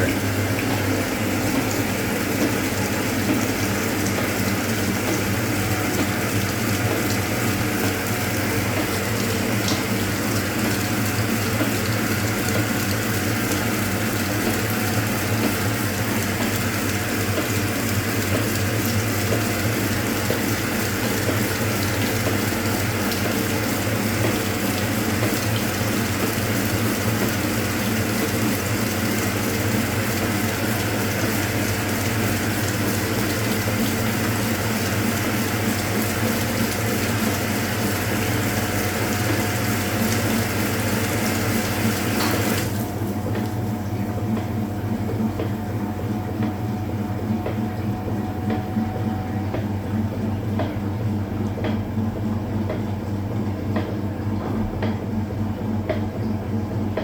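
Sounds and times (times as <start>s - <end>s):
drain pump water rush: 0.0s - 52.0s
washing machine spinning: 0.0s - 57.0s.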